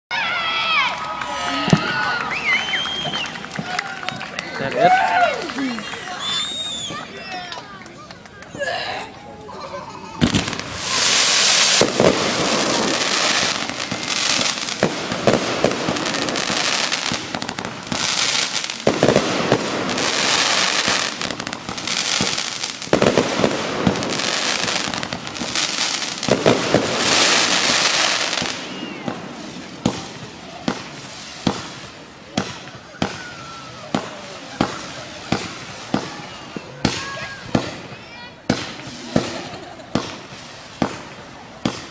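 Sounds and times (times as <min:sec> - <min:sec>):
fireworks bangs: 0:00.1 - 0:41.9
fireworks crackling: 0:00.1 - 0:41.9.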